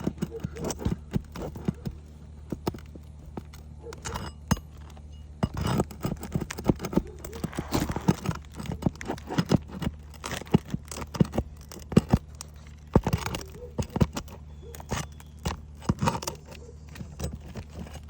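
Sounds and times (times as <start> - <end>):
hand tool prying nails from shingles: 0.0 - 18.0.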